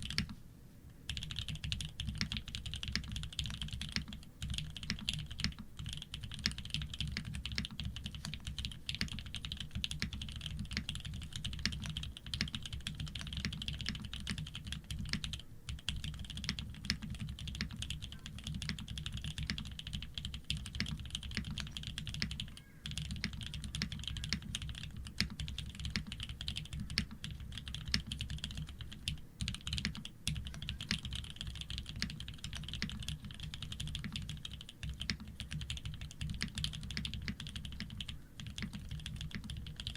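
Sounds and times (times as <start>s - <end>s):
mechanical keyboard typing: 0.0s - 0.4s, 1.1s - 39.9s.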